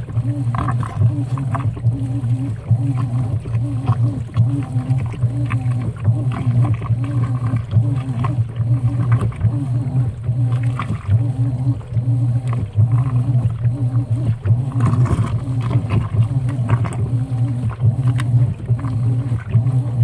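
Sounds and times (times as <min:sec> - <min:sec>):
towels and water sloshing: 0:00.0 - 0:20.0
washing machine motor hum: 0:00.0 - 0:20.0.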